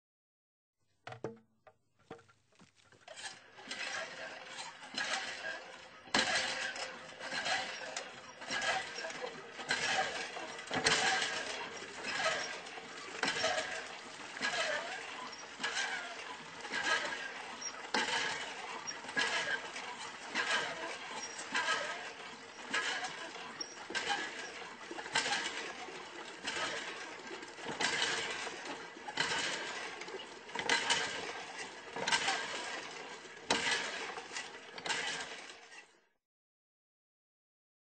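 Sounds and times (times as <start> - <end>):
water pump clanking and squeaking: 2.0 - 36.0.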